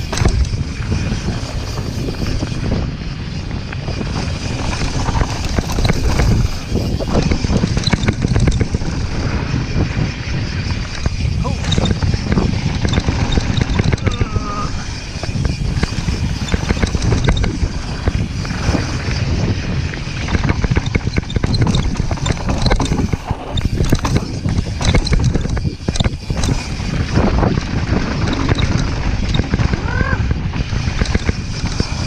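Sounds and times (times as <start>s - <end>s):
rattles and clicks: 0.0s - 32.0s
vehicle rumbling: 0.0s - 32.0s
wind buffeting microphone: 0.0s - 32.0s.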